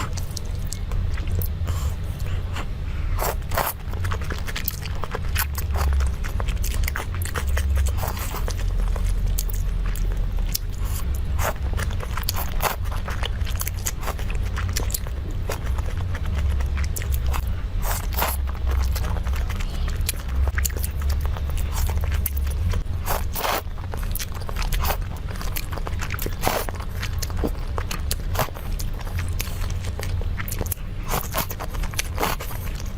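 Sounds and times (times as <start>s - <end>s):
low rumble: 0.0s - 32.9s
person chewing crunchy food: 0.0s - 32.9s.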